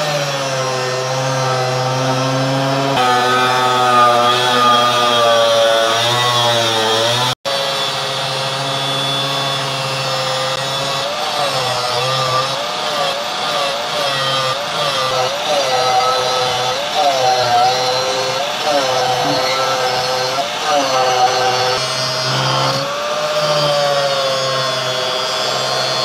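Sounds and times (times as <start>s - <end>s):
angle grinder cutting steel: 0.0s - 26.0s.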